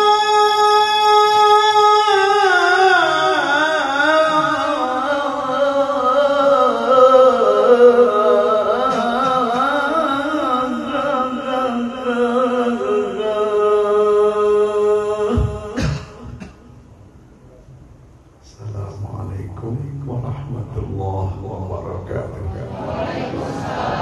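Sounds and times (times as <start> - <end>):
person reciting melodically: 0.0 - 16.7, 18.4 - 24.0.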